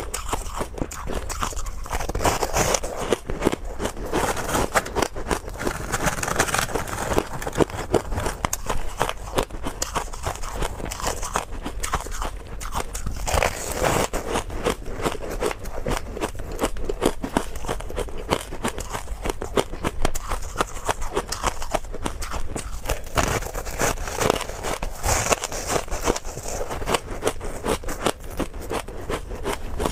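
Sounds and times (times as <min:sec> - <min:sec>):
chewing crunchy ice: 0:00.0 - 0:29.9.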